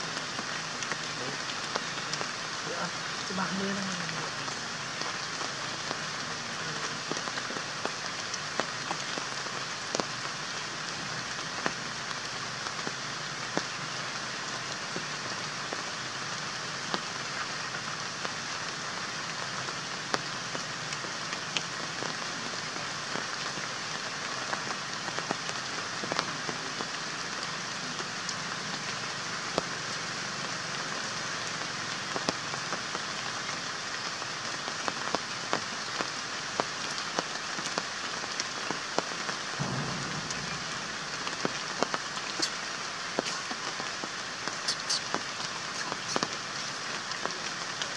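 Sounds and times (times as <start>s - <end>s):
raindrops ticking on surfaces: 0.0s - 47.9s
steady rain hiss: 0.0s - 47.9s.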